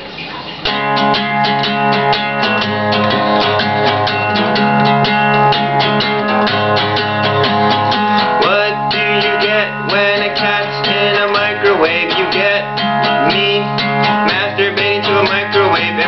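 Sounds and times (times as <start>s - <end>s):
acoustic guitar strumming chords: 0.1s - 16.0s.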